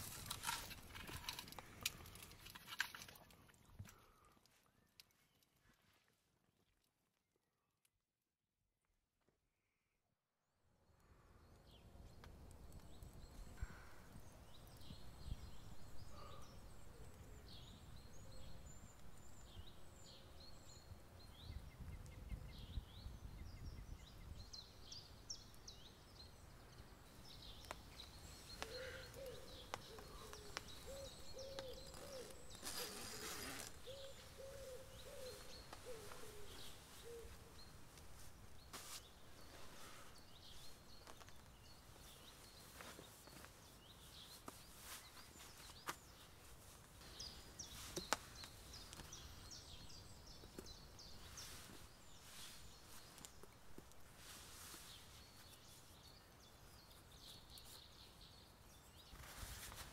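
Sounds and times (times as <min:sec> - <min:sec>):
small birds chirping: 0:11.4 - 0:59.9.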